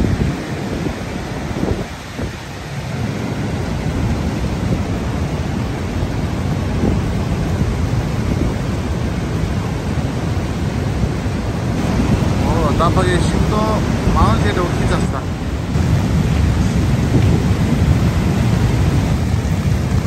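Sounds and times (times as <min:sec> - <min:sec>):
flooded torrent roaring: 0:00.0 - 0:20.0.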